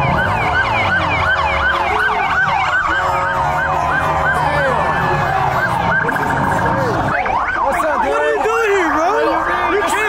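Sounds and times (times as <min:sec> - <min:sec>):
police sirens yelping: 0:00.0 - 0:10.0.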